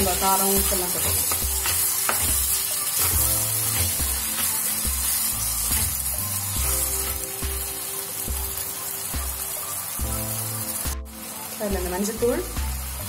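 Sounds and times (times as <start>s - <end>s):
background music: 0.0s - 13.0s
vegetables sizzling in oil: 0.0s - 13.0s.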